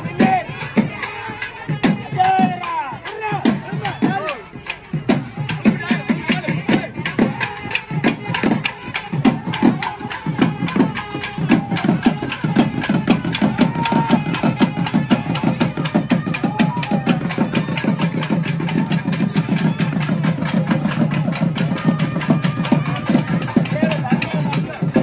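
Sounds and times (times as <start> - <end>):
fast drumming: 0.0 - 25.0.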